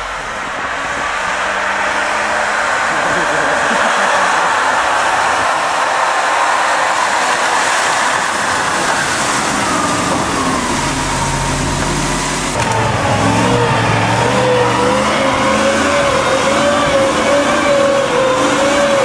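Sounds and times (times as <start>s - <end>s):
steady rushing noise: 0.0s - 19.0s
truck engine working hard: 0.0s - 19.0s.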